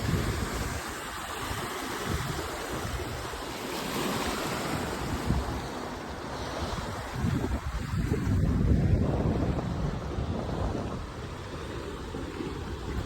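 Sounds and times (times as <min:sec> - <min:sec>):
ocean surf washing in: 0:00.0 - 0:13.0
wind buffeting microphone: 0:00.0 - 0:13.0.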